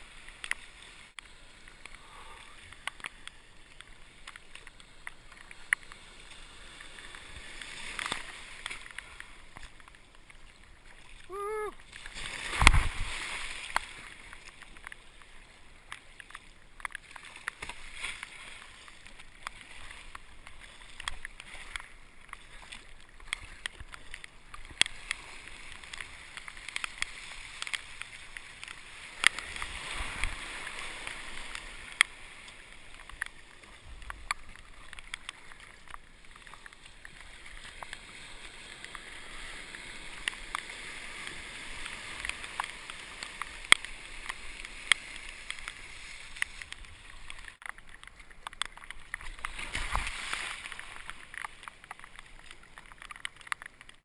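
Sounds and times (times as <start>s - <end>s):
sharp splashes and taps: 0.0s - 2.0s, 6.8s - 54.0s
rush of foaming water: 0.0s - 54.0s.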